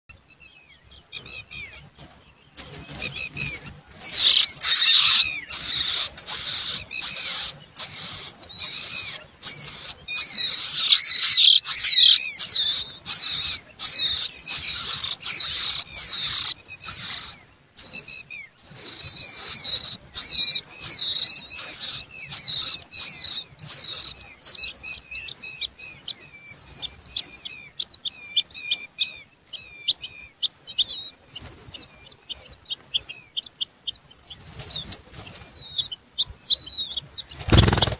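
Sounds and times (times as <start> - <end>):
finches chirping: 0.3 - 37.9.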